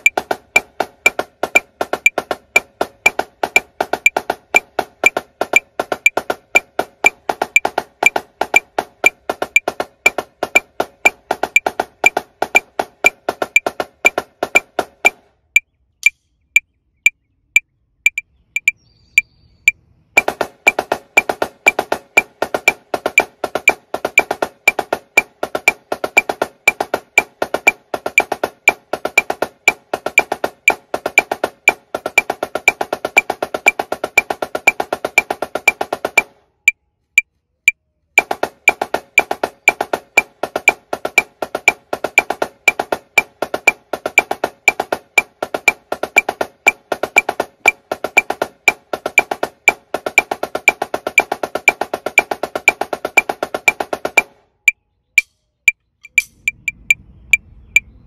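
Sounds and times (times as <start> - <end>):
snare drum playing: 0.0 - 15.3, 20.2 - 36.4, 38.2 - 54.4
metronome clicking: 0.0 - 16.7, 18.1 - 18.8, 20.2 - 36.3, 38.2 - 58.0.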